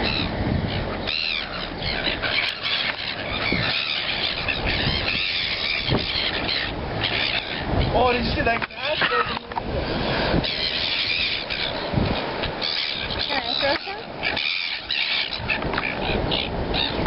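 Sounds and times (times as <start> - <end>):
seagulls squealing: 0.0 - 17.0.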